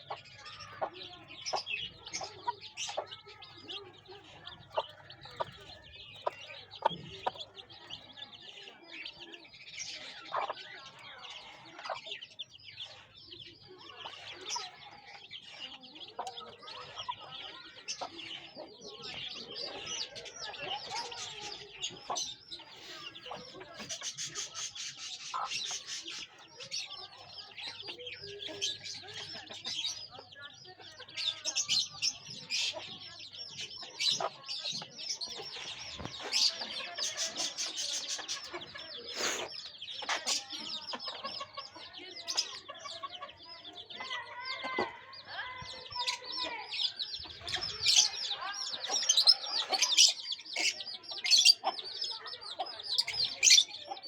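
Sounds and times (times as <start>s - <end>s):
chickens clucking: 0.0s - 54.0s
high-pitched chirps and peeps: 0.0s - 54.0s.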